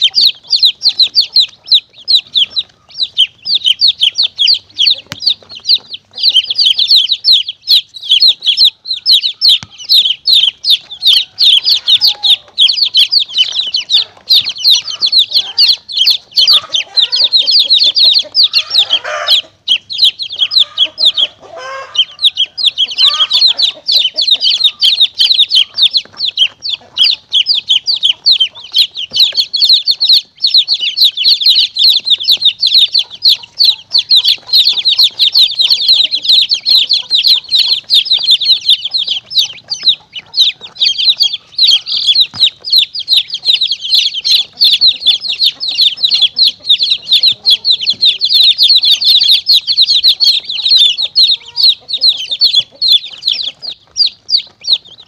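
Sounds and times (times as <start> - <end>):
baby chicks peeping: 0.0 - 55.0.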